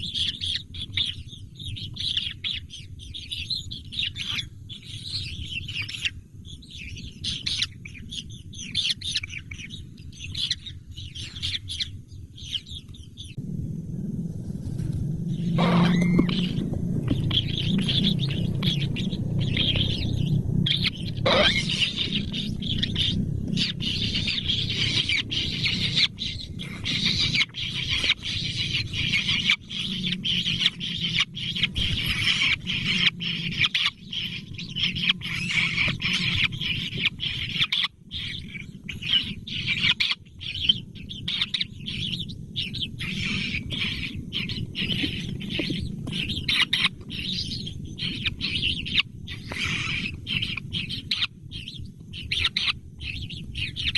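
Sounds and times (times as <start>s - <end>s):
birds chirping: 0.0s - 53.9s
steady low rumble: 0.0s - 53.9s.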